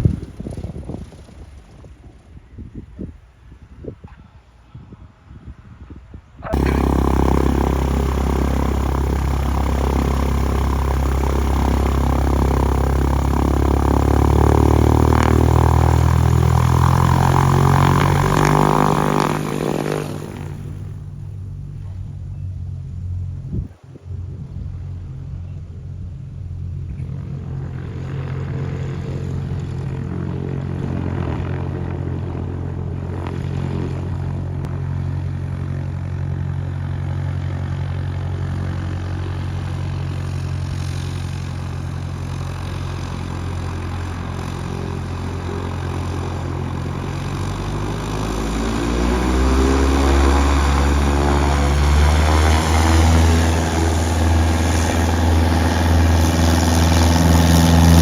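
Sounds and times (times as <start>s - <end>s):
propeller engine running: 6.5s - 58.0s.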